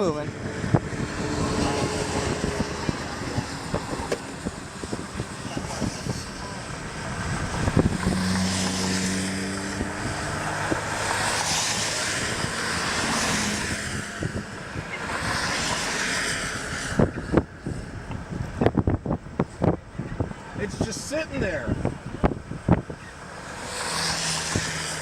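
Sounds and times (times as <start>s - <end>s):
vehicles passing on road: 0.0s - 25.0s.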